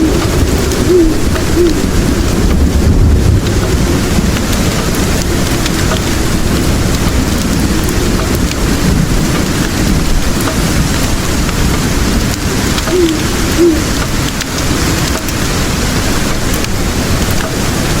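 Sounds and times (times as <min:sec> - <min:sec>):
low rumble of thunder: 0:00.0 - 0:18.0
steady rain: 0:00.0 - 0:18.0.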